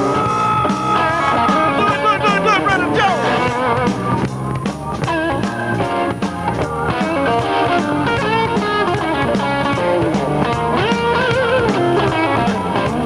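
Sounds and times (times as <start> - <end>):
band playing live: 0.0 - 13.0.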